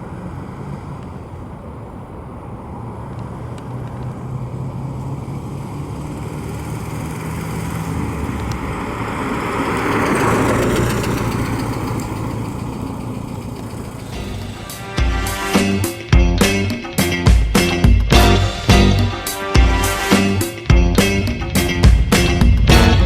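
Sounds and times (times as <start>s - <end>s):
bus engine driving by: 0.0s - 17.2s, 18.2s - 23.0s.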